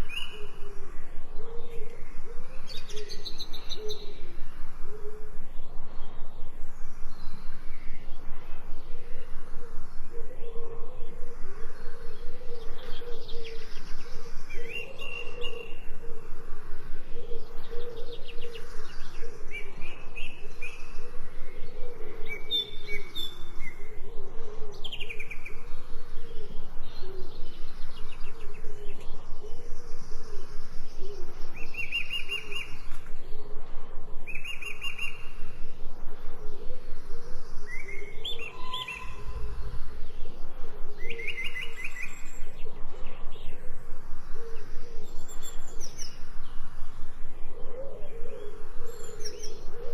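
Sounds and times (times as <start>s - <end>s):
songbirds chirping: 0.0s - 49.9s
steady low background: 0.0s - 49.9s.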